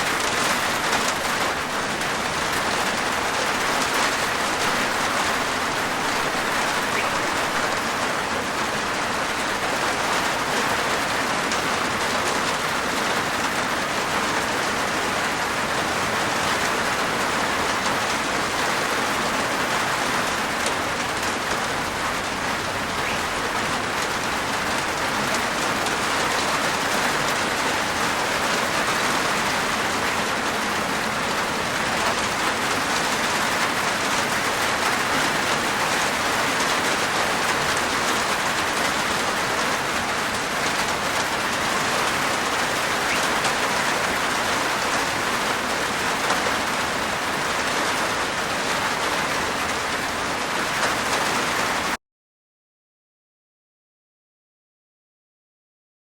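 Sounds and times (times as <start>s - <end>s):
rain on a roof: 0.0s - 52.0s.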